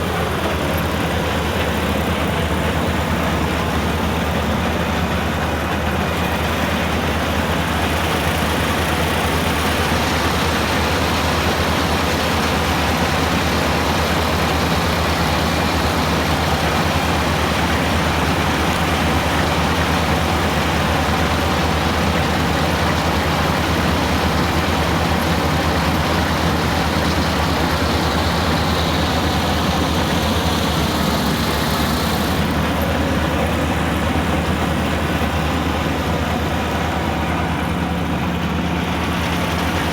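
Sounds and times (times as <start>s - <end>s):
farm machine engine running: 0.0s - 39.9s.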